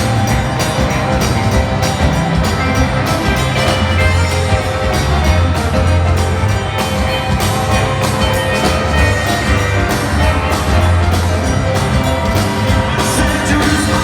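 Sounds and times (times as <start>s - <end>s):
heavy bass line: 0.0s - 14.0s
rock band playing: 0.0s - 14.0s
steady drum beat: 0.0s - 14.0s.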